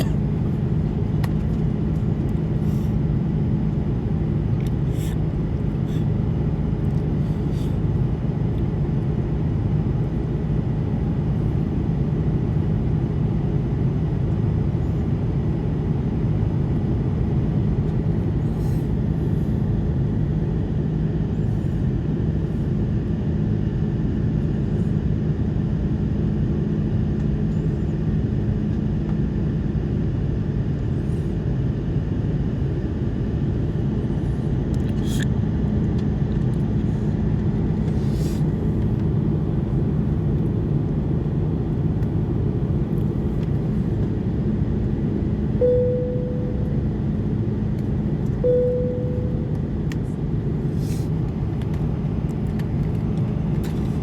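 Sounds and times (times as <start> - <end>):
constant low hum: 0.0 - 54.0
engine and airflow rumble: 0.0 - 54.0.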